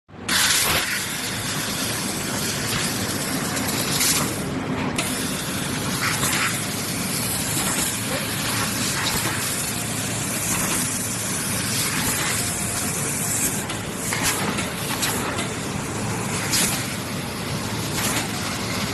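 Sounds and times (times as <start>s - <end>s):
laser cutter hissing: 0.3s - 18.9s.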